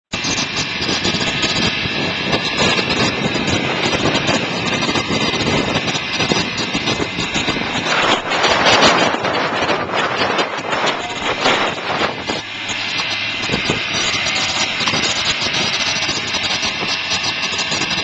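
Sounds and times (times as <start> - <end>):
scooter engine running: 0.2 - 18.0
trailer rattling and knocking: 0.2 - 18.0.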